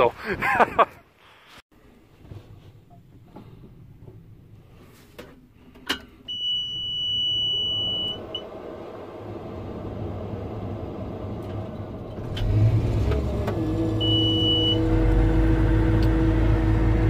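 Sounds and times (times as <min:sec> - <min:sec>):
diesel engine starting and running: 0:01.8 - 0:17.0.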